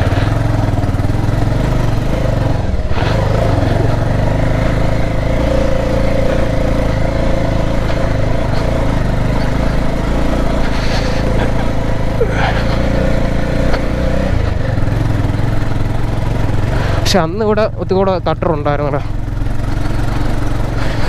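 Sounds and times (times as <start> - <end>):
motorcycle engine climbing: 0.0 - 21.0.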